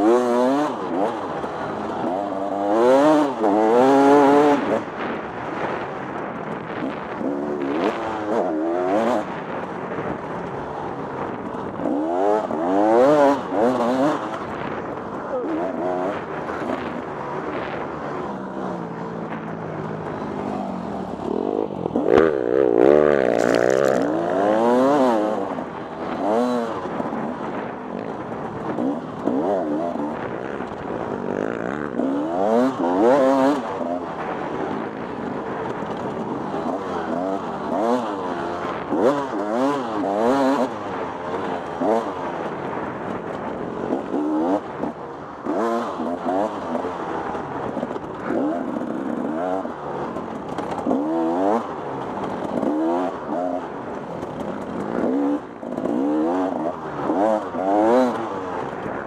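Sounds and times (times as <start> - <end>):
dirt bike engine revving: 0.0 - 6.0, 6.7 - 58.8.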